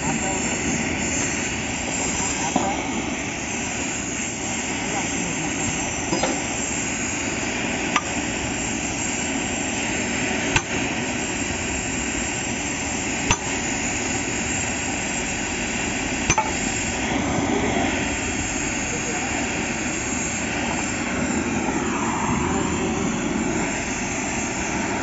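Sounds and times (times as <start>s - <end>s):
welding torch hissing: 0.0s - 25.0s.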